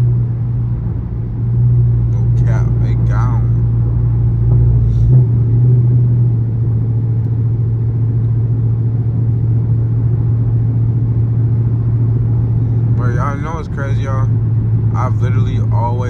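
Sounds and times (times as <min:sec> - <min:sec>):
car exhaust drone from inside: 0:00.0 - 0:16.0.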